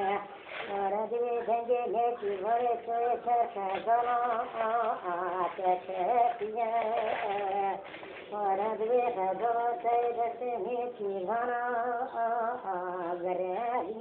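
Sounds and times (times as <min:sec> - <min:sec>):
person singing slow melody: 0:00.0 - 0:14.0.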